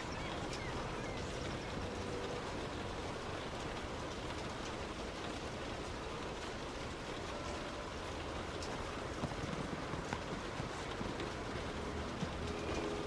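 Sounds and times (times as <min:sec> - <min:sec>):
heavy rain on a car: 0:00.0 - 0:13.0
tyre noise on wet road: 0:00.0 - 0:13.0.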